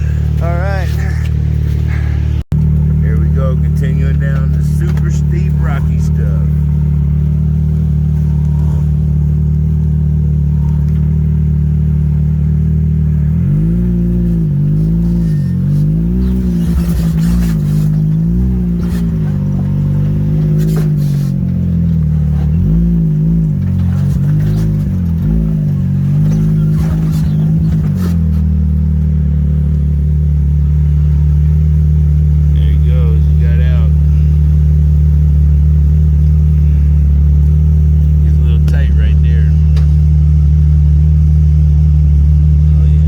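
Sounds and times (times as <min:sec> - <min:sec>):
vehicle engine running and revving: 0:00.0 - 0:43.0.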